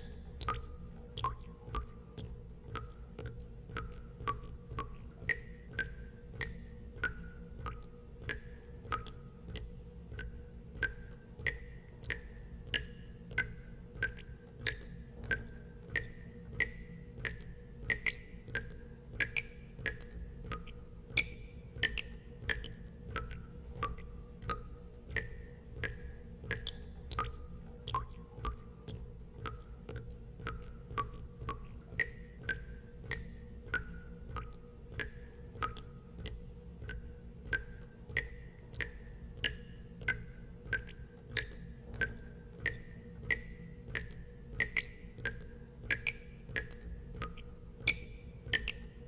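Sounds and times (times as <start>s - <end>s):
steady low hum: 0.0s - 49.0s
water drops plinking into water: 0.0s - 49.0s.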